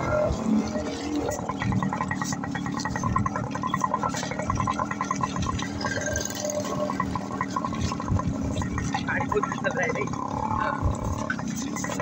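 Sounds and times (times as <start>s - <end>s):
two-stroke motorcycle engine: 0.0s - 12.0s
tyres on muddy road: 0.0s - 12.0s.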